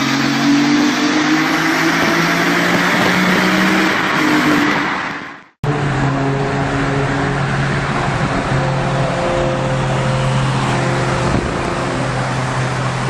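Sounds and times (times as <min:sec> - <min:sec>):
supercar engine echoing in tunnel: 0:00.0 - 0:13.0.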